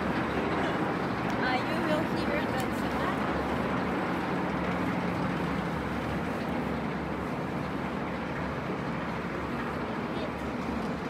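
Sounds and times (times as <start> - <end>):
outdoor background din: 0.0 - 11.0.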